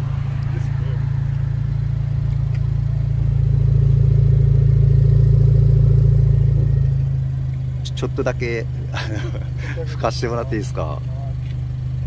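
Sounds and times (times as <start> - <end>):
car exhaust idling deep drone: 0.0 - 12.0.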